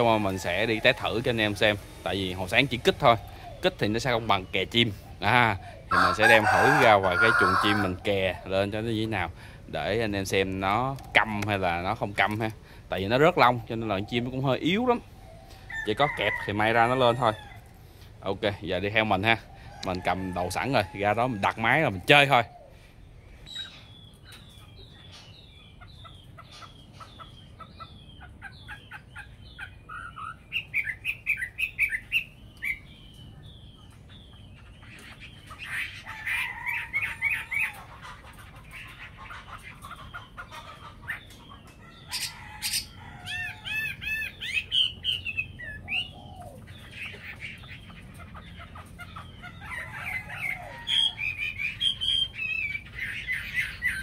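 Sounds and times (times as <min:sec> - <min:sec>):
bird calling and singing: 0:00.0 - 0:54.0.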